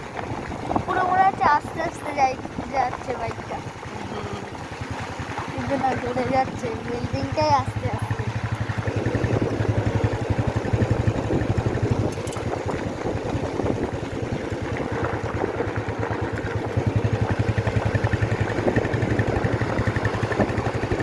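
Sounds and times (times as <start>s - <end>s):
motorcycle engine running: 0.0s - 21.0s
road and air noise: 0.0s - 21.0s.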